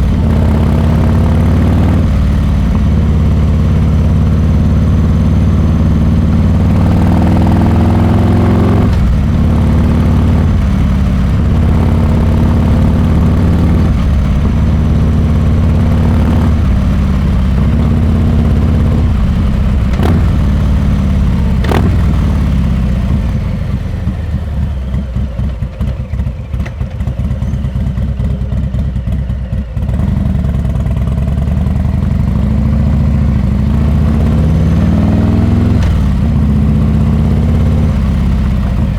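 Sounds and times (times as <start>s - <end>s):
motorcycle engine revving: 0.0s - 38.9s
motorcycle off-throttle burble: 0.0s - 38.9s.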